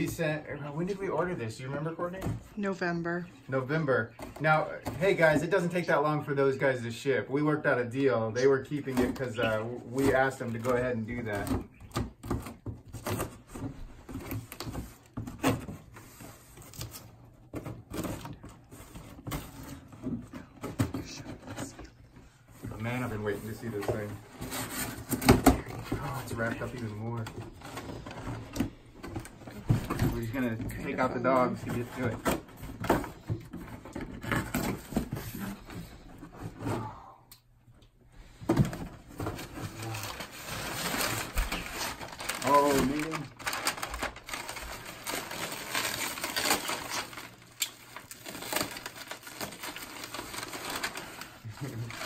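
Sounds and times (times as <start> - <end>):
cardboard and paper rustling: 8.4 - 37.0, 38.2 - 52.0.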